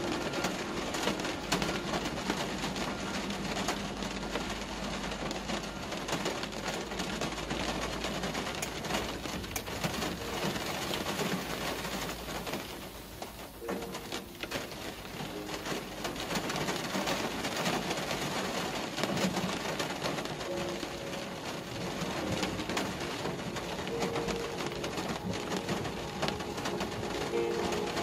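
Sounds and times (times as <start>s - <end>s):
rain pattering on car windshield: 0.0s - 28.0s.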